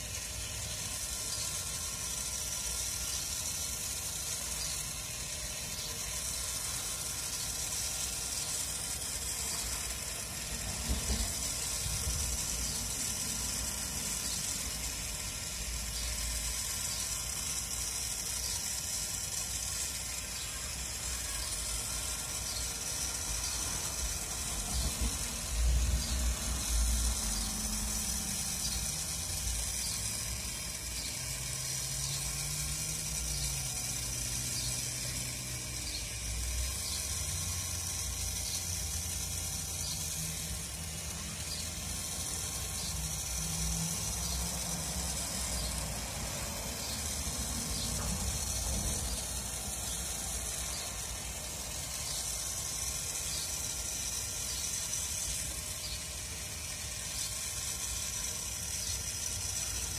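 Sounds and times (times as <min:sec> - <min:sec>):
constant hiss: 0:00.0 - 0:59.9
rotisserie motor running: 0:00.0 - 0:59.9.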